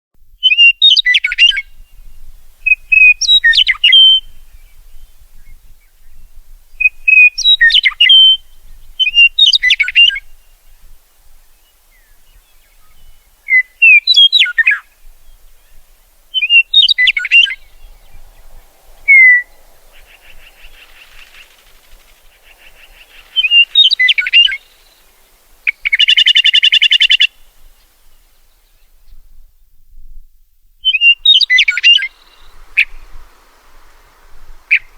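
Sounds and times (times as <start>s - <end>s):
meadowlark singing: 0.2s - 29.4s, 30.8s - 34.9s.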